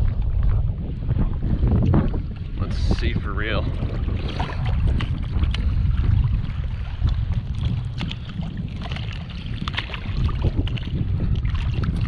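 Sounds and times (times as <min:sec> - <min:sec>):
choppy water splashing: 0:00.0 - 0:12.0
wind buffeting microphone: 0:00.0 - 0:12.0.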